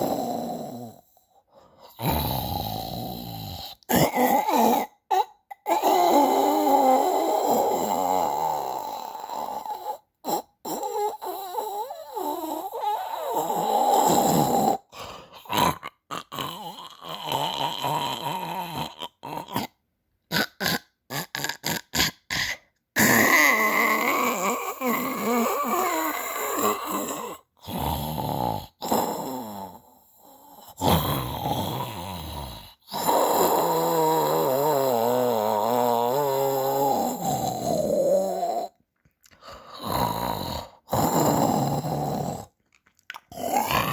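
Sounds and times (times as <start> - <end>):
snoring: 0.0 - 38.8, 39.4 - 42.6, 43.3 - 43.9.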